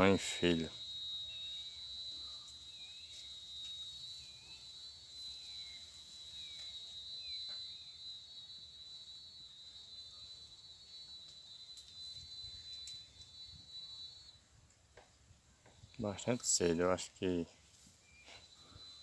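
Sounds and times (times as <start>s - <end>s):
high-pitched insect buzz: 0.0s - 14.5s, 17.7s - 19.0s.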